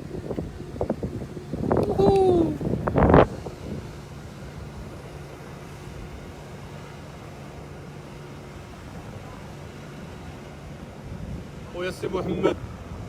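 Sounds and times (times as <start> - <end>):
motorboat engine humming: 0.0 - 13.0
water noise: 0.0 - 13.0
wind: 0.0 - 13.0.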